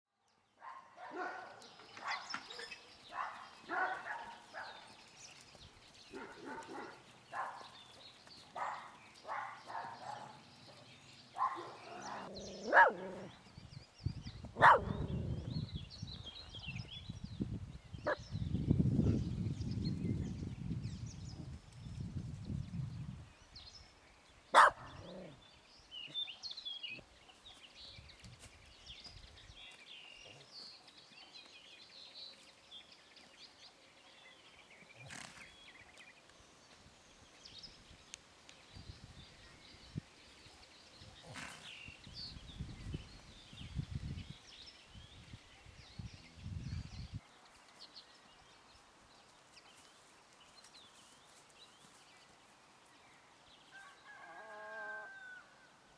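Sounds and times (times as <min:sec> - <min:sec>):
small birds chirping: 0:00.2 - 0:54.2.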